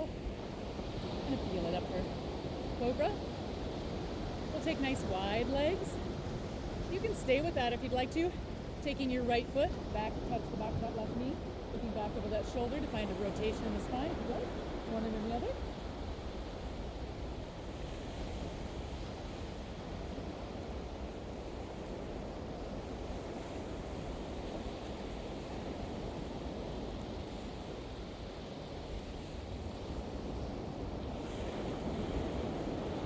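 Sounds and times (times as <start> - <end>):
ocean waves washing onto beach: 0.0 - 33.0.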